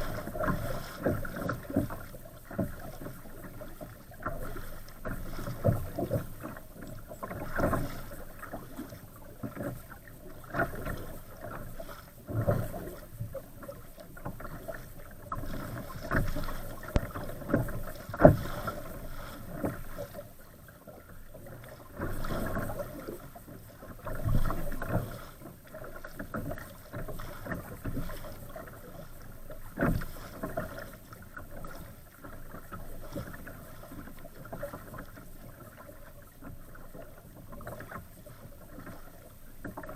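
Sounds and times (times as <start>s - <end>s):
water slapping kayak hull: 0.0s - 39.9s.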